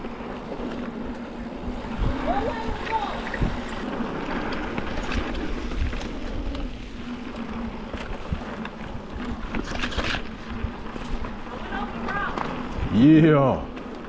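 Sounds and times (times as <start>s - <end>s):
bike rattles and clicks: 0.0s - 14.0s
bike tyres rolling on dirt: 0.0s - 14.0s
wind buffeting microphone: 0.0s - 14.0s.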